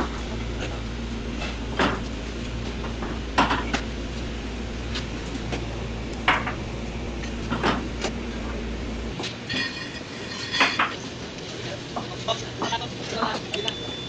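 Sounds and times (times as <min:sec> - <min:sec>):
low kitchen hum: 0:00.0 - 0:14.0.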